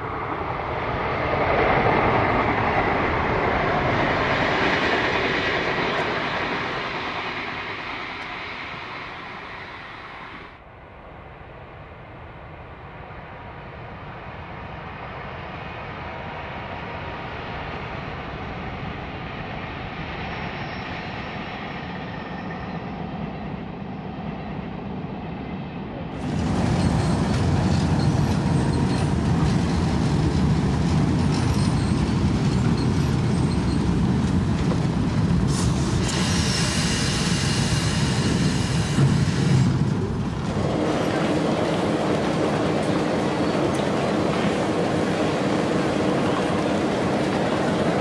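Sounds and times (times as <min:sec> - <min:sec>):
train rumble: 0:00.0 - 0:48.0.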